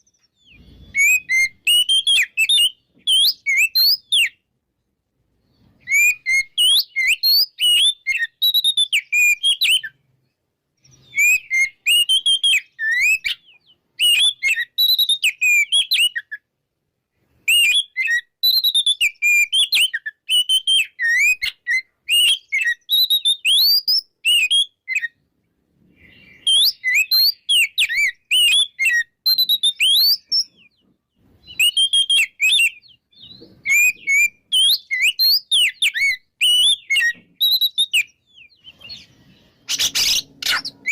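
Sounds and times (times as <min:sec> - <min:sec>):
bird singing whistles and chirps: 0:00.0 - 0:04.5, 0:05.4 - 0:16.5, 0:17.4 - 0:25.2, 0:25.9 - 0:40.9.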